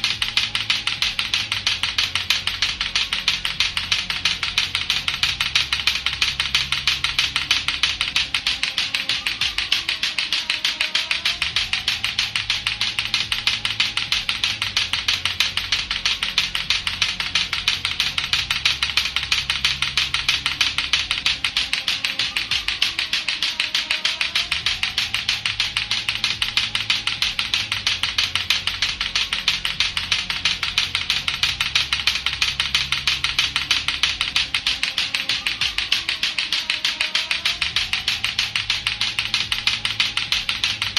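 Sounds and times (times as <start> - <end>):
clacker balls knocking: 0.0 - 40.9
music with bass line: 0.0 - 40.9.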